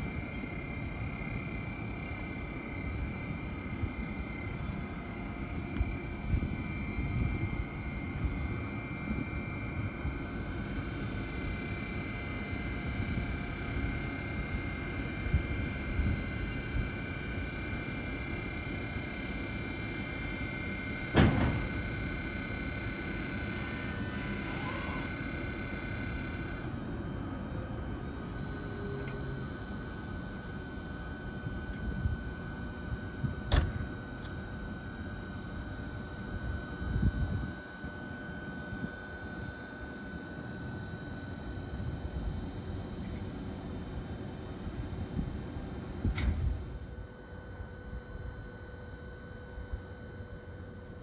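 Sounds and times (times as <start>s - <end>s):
electric locomotive whine: 0.0s - 51.0s.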